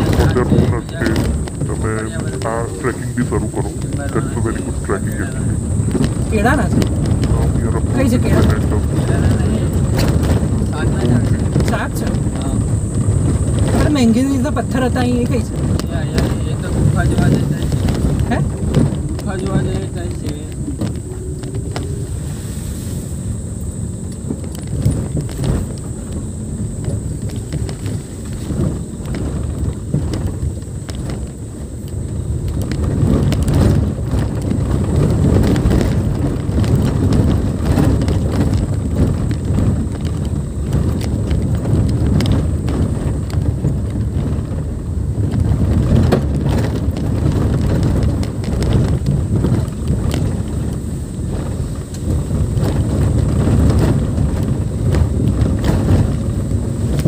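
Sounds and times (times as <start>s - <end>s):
car driving on rough dirt track: 0.0s - 57.0s
car knocks and jolts: 0.0s - 57.0s.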